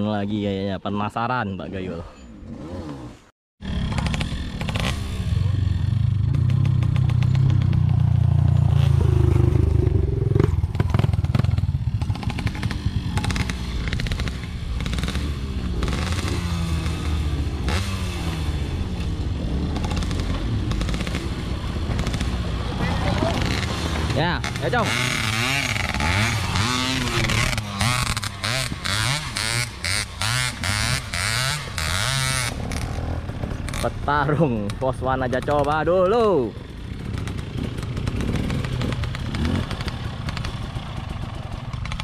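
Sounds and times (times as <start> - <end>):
motorcycle engine revving: 2.3 - 42.0.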